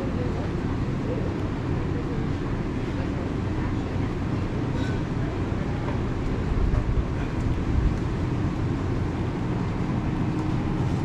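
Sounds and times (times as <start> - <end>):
supermarket background rumble: 0.0 - 11.0.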